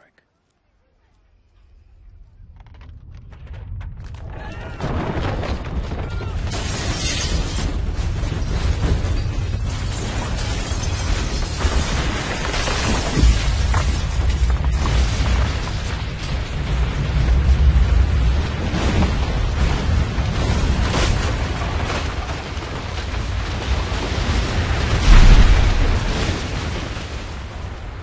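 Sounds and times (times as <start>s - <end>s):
deep earthquake rumble: 1.6s - 28.0s
objects rattling and crashing down: 2.5s - 28.0s.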